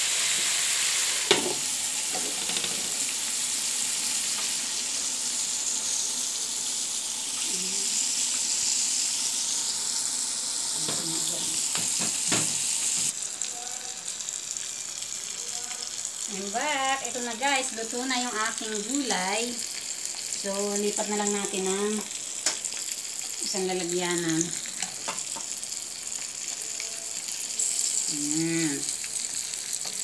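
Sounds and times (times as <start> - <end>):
cabbage sizzling in a wok: 0.0 - 30.0.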